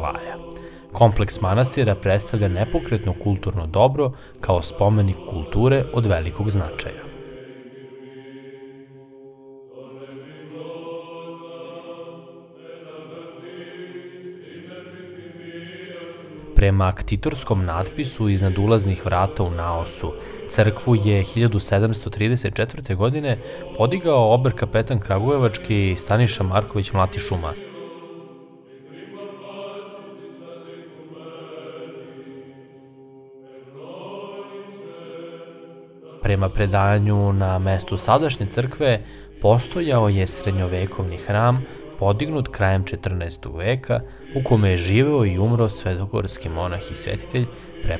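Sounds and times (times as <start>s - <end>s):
slow chanting: 0.0s - 47.9s.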